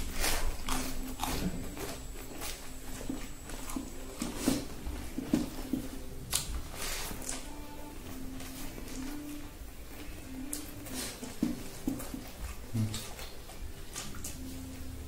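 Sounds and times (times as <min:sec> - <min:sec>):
chewing with wet mouth smacks: 0:00.0 - 0:07.8, 0:08.5 - 0:15.0.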